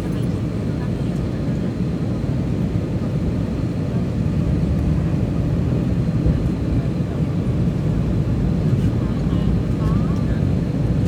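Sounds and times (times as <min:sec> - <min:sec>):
airplane low rumble: 0:00.0 - 0:11.0.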